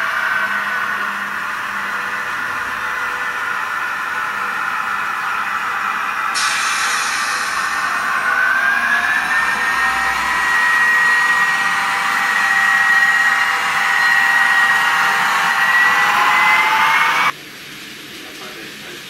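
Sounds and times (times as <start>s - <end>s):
small electric motor whining: 0.0s - 17.3s
wheels hissing on rails: 0.0s - 19.0s.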